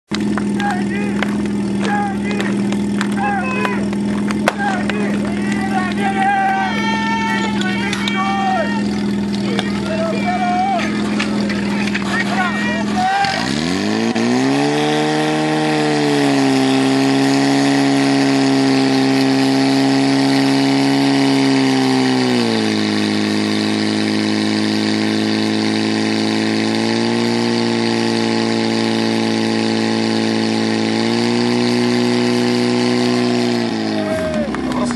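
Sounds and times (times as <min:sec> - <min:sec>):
pump engine running at high revs: 0:00.1 - 0:34.9.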